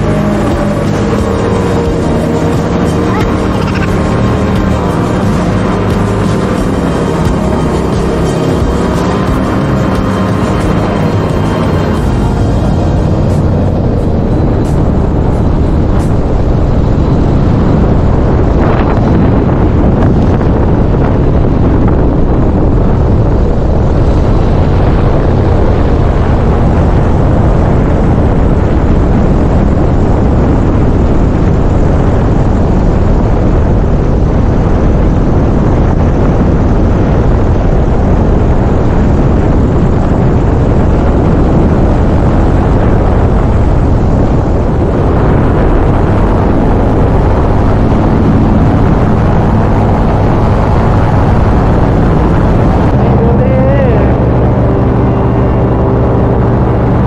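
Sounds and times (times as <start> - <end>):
paramotor engine and propeller drone: 0.0 - 57.0.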